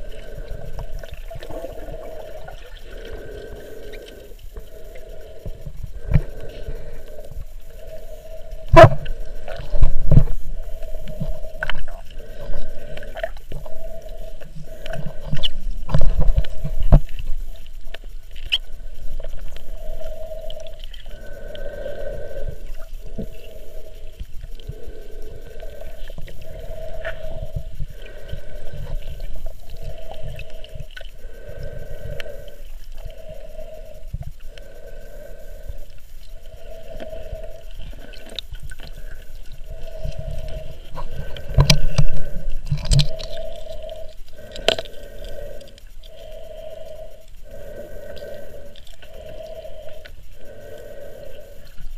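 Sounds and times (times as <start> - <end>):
underwater hum: 0.0 - 51.9.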